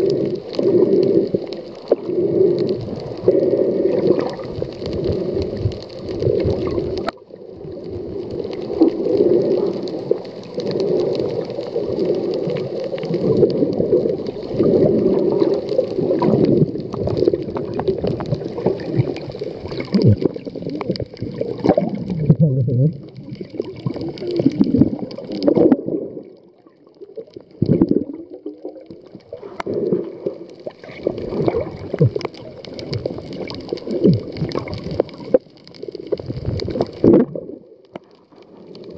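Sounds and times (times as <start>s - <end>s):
muffled underwater water noise: 0.0s - 38.9s.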